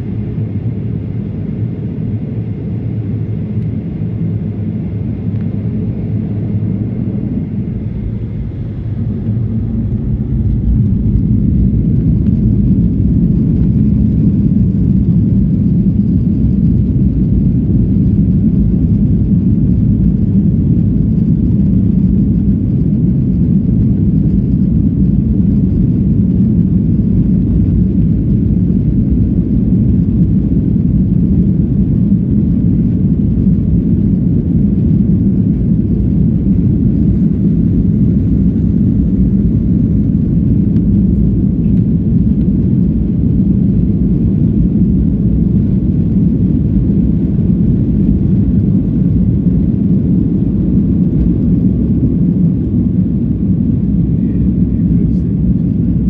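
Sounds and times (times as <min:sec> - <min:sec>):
jet engines low rumble in cabin: 0:00.0 - 0:56.0.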